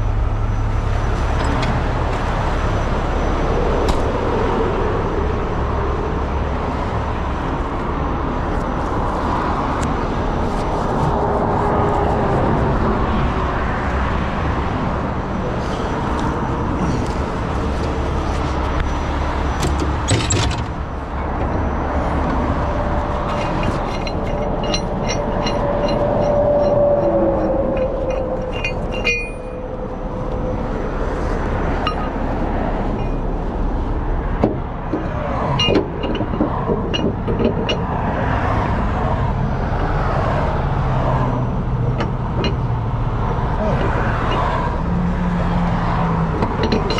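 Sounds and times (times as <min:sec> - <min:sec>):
diesel engine rumbling: 0:00.0 - 0:46.9
engine whine: 0:00.0 - 0:46.9.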